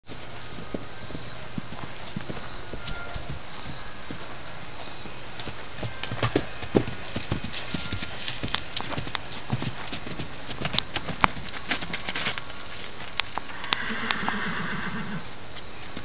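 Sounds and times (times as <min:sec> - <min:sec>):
horse hoofbeats on grass: 0:00.1 - 0:16.0.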